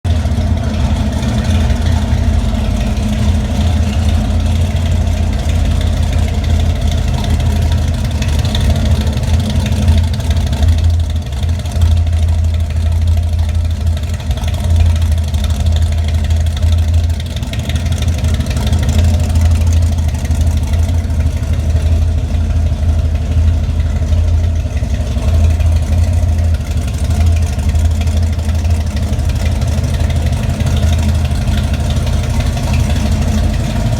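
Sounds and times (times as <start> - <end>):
car engine idling rough: 0.0 - 33.9.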